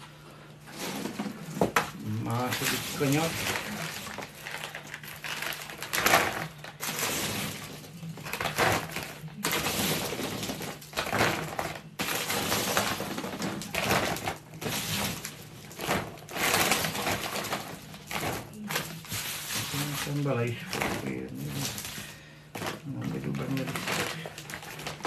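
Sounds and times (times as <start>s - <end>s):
plastic bag crinkling: 0.4s - 25.0s
hard boilies rattling: 0.6s - 25.0s.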